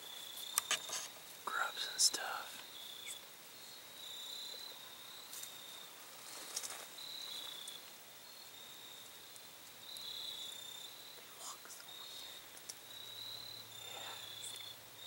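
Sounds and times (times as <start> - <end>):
faint rustle: 0.0 - 3.8, 4.5 - 14.8
faint outdoor hiss: 0.0 - 15.0
insects chirping: 0.0 - 15.0.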